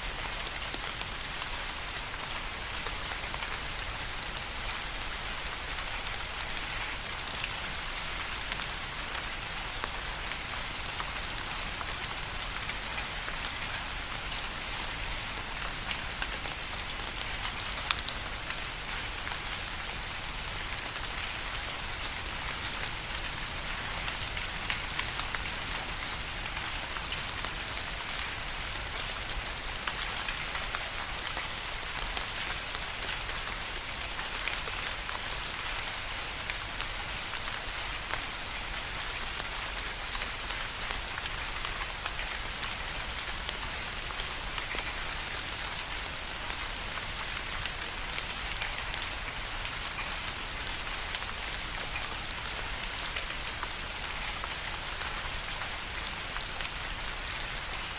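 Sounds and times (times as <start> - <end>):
steady rain falling: 0.0 - 57.9
raindrops pattering: 0.3 - 57.9.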